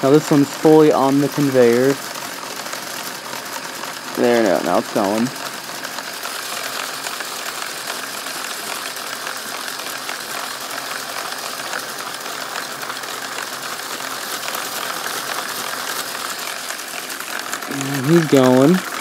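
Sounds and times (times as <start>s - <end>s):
gears and brushes rattling: 0.0s - 19.0s
toy motor whirring: 0.0s - 19.0s.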